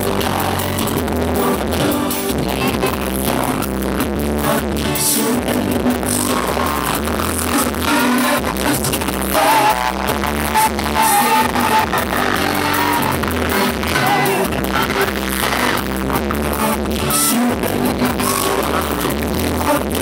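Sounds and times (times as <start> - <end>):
heavy bass line: 0.0 - 20.0
live pop band playing: 0.0 - 20.0
person singing: 0.0 - 20.0.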